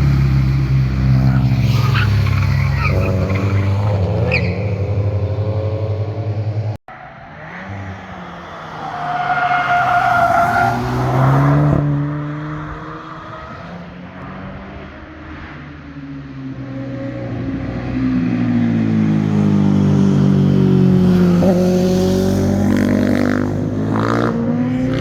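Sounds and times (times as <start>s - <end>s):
car engines speeding past: 0.0s - 25.0s.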